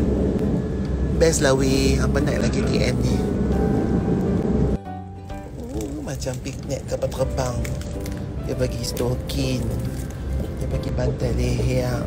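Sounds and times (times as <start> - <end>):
train rumble and hiss: 0.0 - 4.8, 5.4 - 7.8, 8.4 - 12.0
faint music: 0.0 - 12.0.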